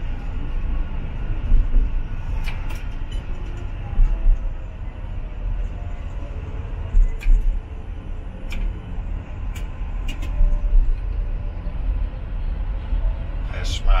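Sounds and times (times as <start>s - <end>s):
tram rumbling on track: 0.0s - 14.0s.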